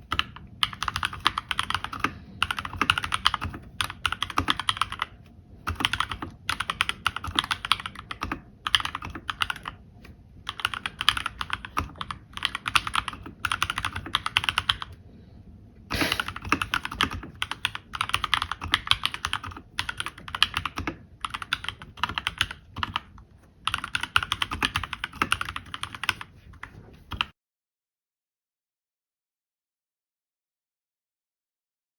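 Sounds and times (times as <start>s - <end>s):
mechanical keyboard typing: 0.0s - 15.0s, 16.0s - 27.3s.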